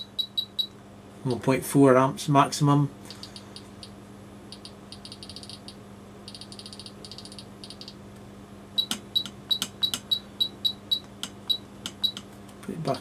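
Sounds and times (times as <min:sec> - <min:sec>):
low transformer hum: 0:00.0 - 0:13.0.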